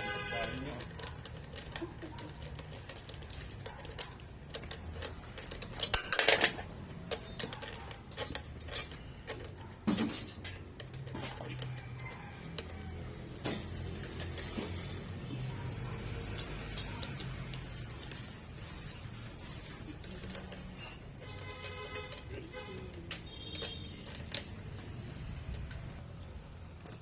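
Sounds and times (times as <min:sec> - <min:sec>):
metal clatter: 0:00.1 - 0:27.0
metal tools clicking and clinking: 0:00.4 - 0:18.5, 0:19.8 - 0:27.0.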